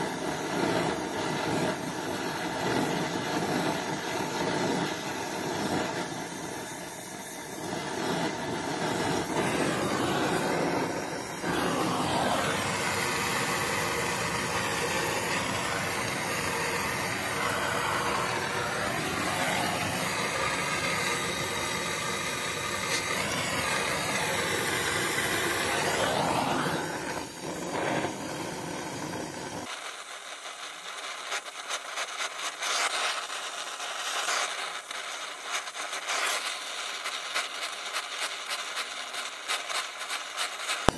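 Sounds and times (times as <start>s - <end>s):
welding torch flame hissing: 0.0s - 40.9s.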